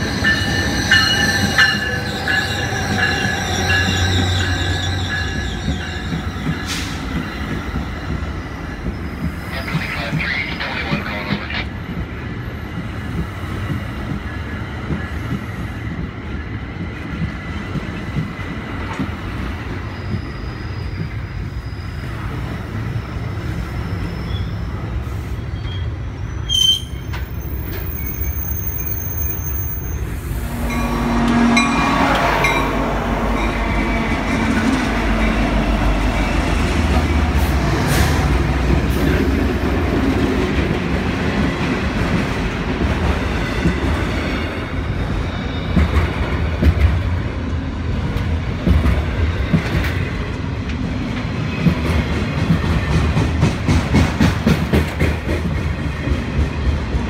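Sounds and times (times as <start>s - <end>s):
diesel locomotive passing: 0.0s - 57.0s
train wheels rumbling on rails: 0.0s - 57.0s.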